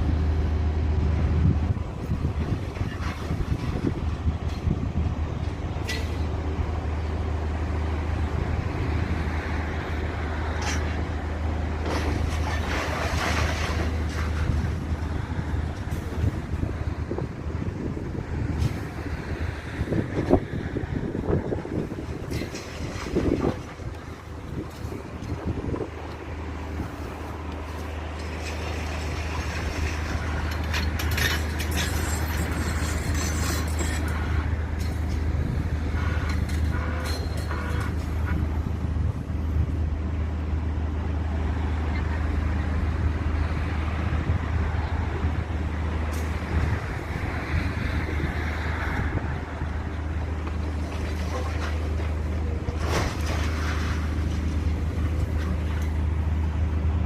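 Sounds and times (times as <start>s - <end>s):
large engine rumbling: 0.0s - 57.0s.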